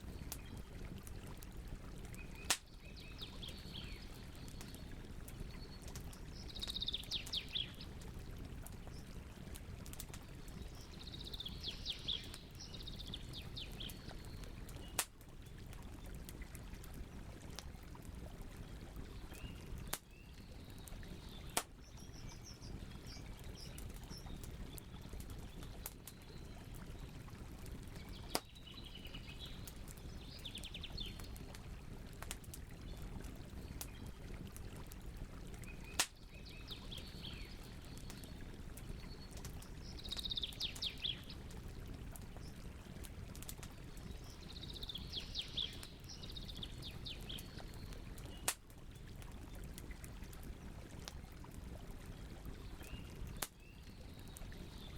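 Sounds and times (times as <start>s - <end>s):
campfire crackling: 0.0s - 54.6s.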